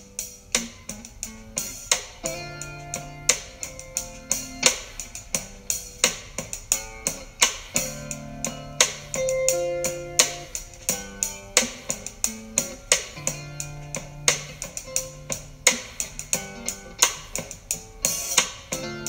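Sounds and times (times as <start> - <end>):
steady drum beat: 0.0 - 19.0
strummed guitar: 0.0 - 19.0.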